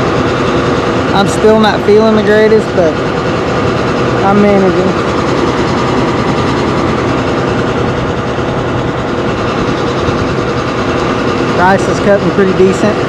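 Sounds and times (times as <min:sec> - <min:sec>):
combine harvester mechanical drone: 0:00.0 - 0:13.0.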